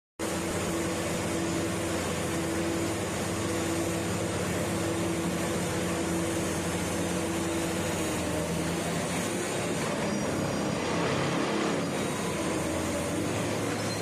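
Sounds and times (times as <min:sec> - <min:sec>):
track tamping machine droning: 0:00.2 - 0:14.0.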